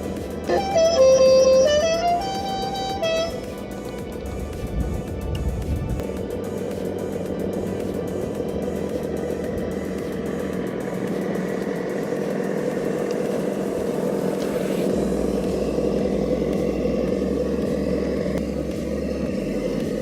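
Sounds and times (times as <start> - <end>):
low rumble: 0.0 - 20.0
rc truck drivetrain hum: 0.0 - 20.0.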